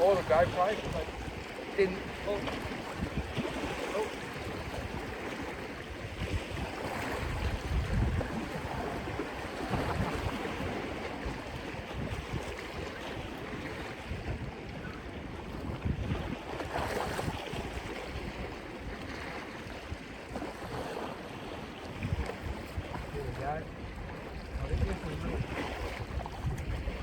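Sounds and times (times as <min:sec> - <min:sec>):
surf washing against rocks: 0:00.0 - 0:27.0
wind buffeting microphone: 0:00.0 - 0:27.0.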